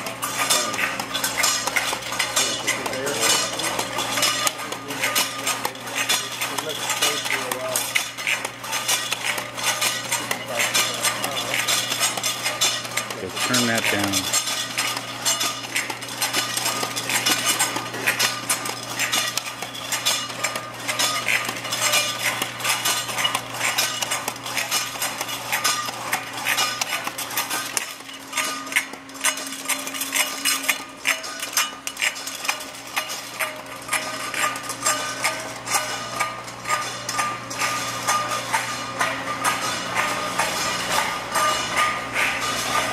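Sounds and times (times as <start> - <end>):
conveyor motors humming: 0.0 - 42.9
tin cans clattering: 0.0 - 42.9.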